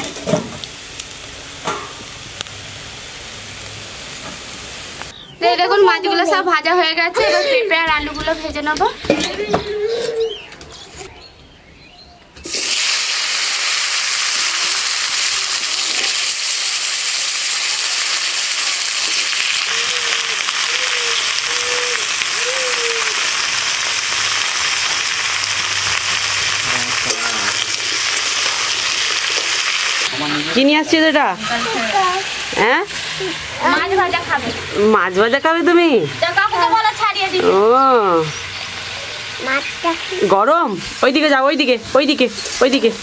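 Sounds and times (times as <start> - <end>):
food sizzling in hot oil: 0.0 - 5.2, 12.4 - 43.0.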